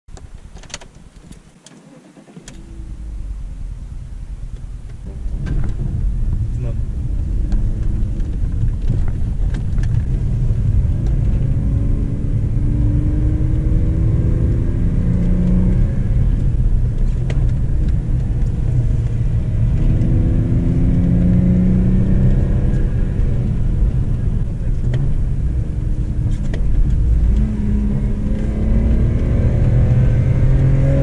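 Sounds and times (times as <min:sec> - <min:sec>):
car exhaust rumble: 0:00.1 - 0:31.0
engine revving under acceleration: 0:02.0 - 0:31.0.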